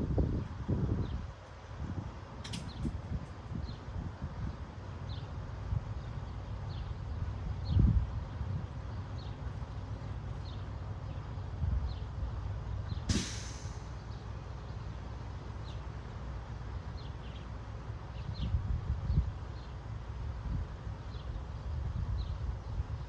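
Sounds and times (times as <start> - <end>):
wind rumble on microphone: 0.0 - 13.9, 17.9 - 23.0.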